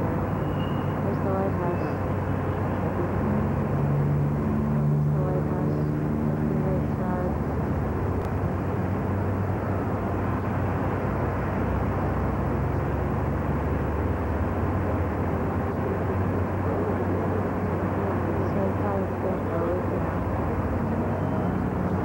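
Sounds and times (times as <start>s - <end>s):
low rumble with hiss: 0.0s - 22.0s.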